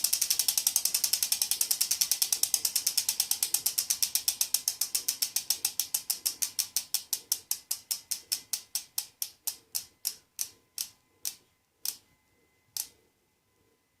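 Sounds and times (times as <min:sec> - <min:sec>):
bicycle freehub clicking: 0:00.0 - 0:12.0.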